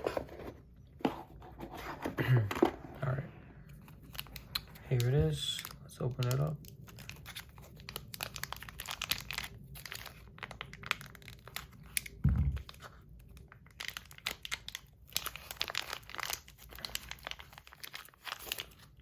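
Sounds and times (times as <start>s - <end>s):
packaging crinkling and tearing: 3.7s - 19.0s.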